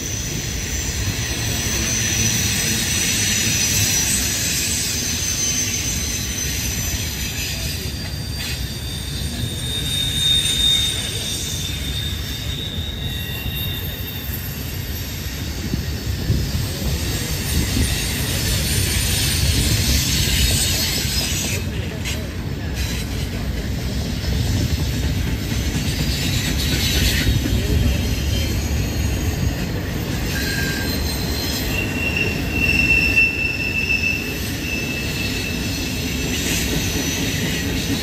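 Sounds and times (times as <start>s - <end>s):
high wheel squeal: 0.0s - 38.0s
train wheels rumbling on rail: 0.0s - 38.0s.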